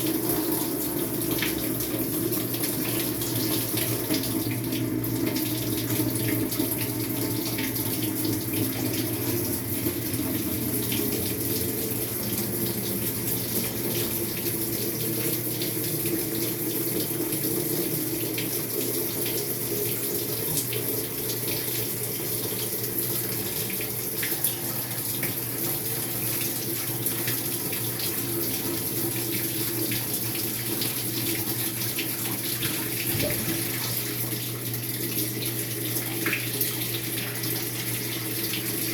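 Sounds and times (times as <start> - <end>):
water pouring into washing machine: 0.0 - 38.9.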